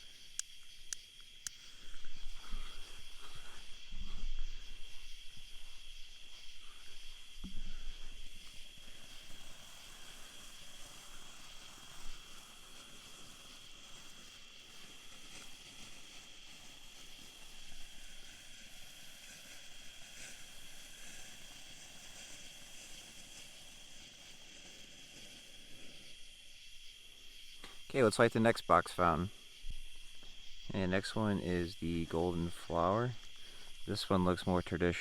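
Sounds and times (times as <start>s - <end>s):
firework fountain hissing: 0.0s - 35.0s
insects trilling: 0.0s - 35.0s.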